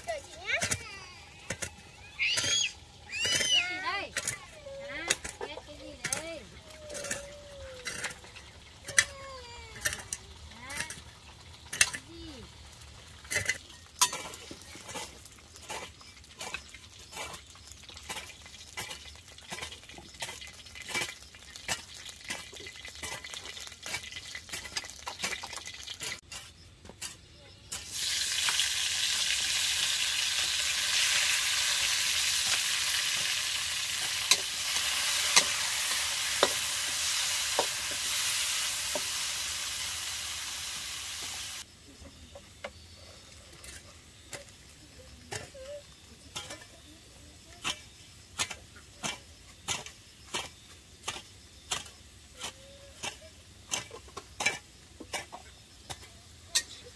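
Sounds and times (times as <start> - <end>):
food sizzling in oil: 0.0 - 56.9.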